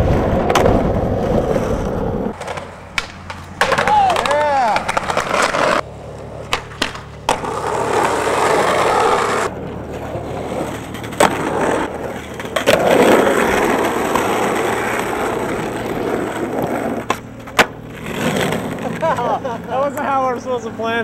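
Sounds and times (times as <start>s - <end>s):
skateboard clacks: 0.0s - 20.2s
skateboard wheels rolling on asphalt: 0.0s - 21.0s.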